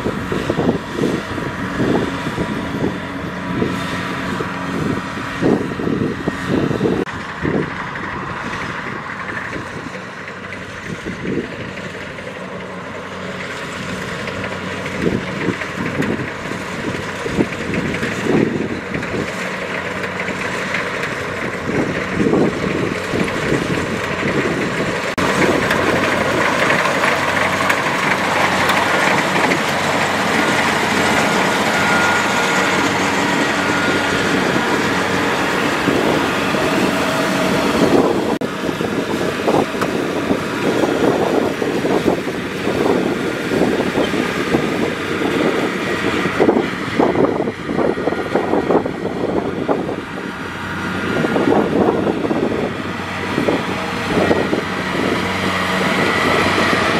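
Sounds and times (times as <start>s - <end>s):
combine harvester diesel engine: 0.0s - 56.9s
machinery knocking and rattling: 0.0s - 56.9s.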